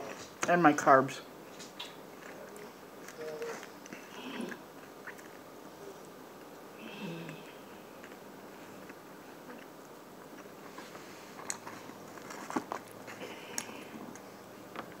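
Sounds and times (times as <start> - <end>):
person chewing food: 1.7 - 15.0.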